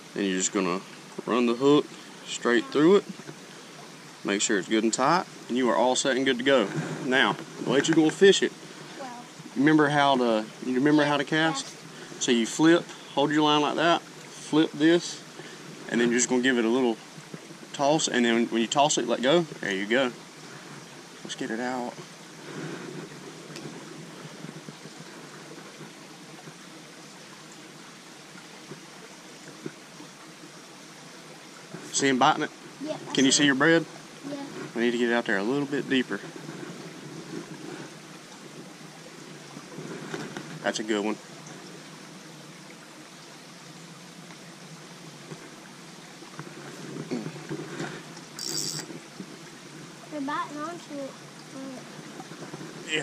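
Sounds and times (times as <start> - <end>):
creek water running: 0.0 - 53.0.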